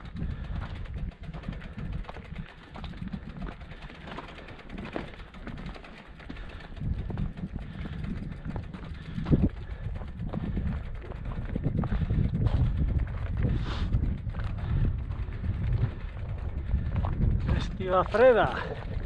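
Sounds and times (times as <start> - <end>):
footsteps on stony path: 0.0 - 19.0
wind rumble on microphone: 0.0 - 19.0.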